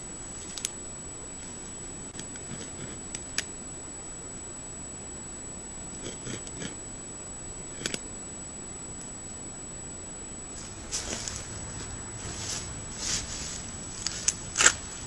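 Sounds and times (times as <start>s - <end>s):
microphone hiss and whine: 0.0s - 15.0s.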